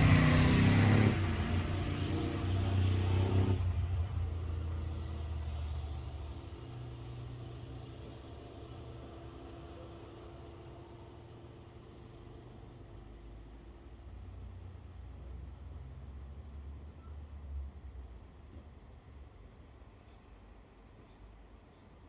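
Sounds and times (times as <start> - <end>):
crickets chirping: 4.0 - 22.0.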